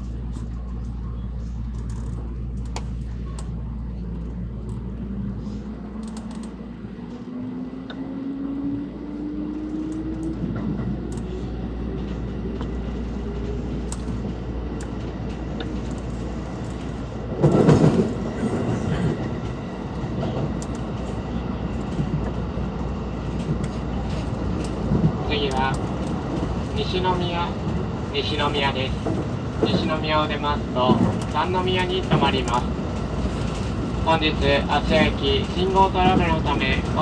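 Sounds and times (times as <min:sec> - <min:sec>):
train interior rumble: 0:00.0 - 0:37.0.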